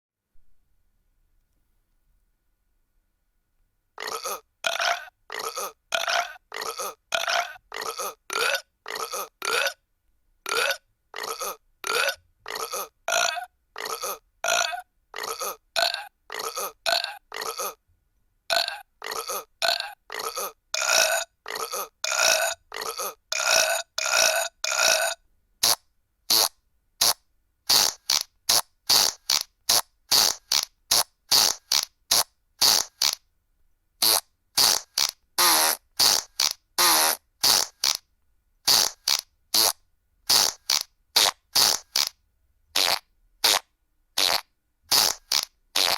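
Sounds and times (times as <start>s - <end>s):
burp sound effects: 4.0s - 9.8s, 10.5s - 17.8s, 18.5s - 33.2s, 34.0s - 38.0s, 38.7s - 42.1s, 42.8s - 43.6s, 44.2s - 45.9s.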